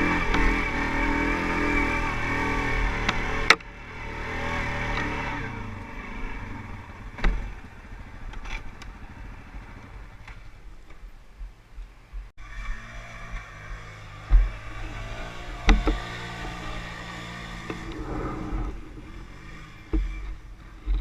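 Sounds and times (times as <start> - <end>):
quad bike engine running: 0.0 - 11.0, 12.4 - 21.0
faint engine: 0.0 - 21.0.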